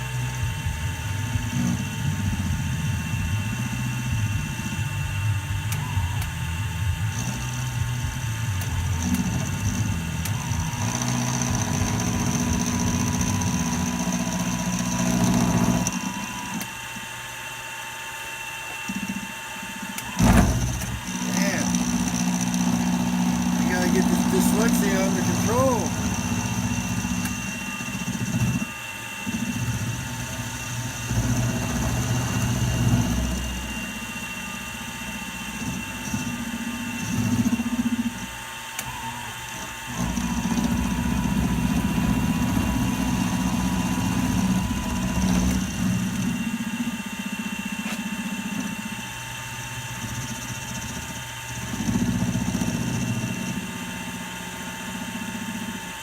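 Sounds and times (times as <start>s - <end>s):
cutter rumbling on metal: 0.0s - 16.7s, 19.9s - 56.0s
milling machine whine: 0.0s - 56.0s.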